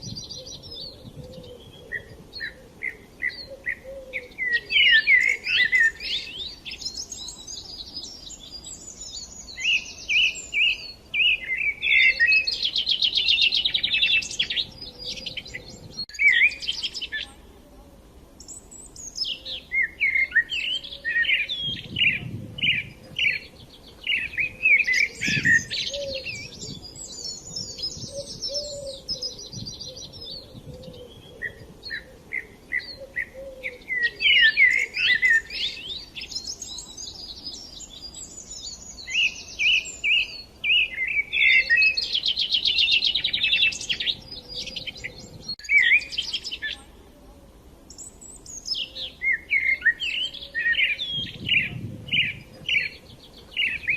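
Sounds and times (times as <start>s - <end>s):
small birds chirping and trilling: 0.0s - 17.6s, 18.4s - 53.9s.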